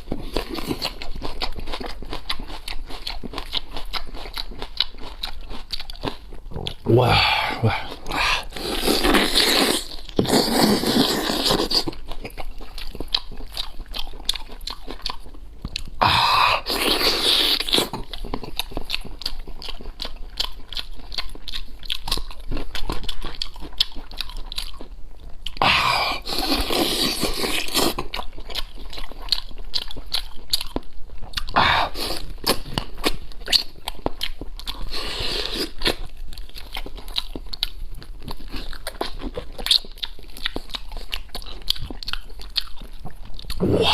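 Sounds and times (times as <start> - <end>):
biting and tearing meat: 0.0 - 43.9
person chewing wetly: 0.0 - 43.9.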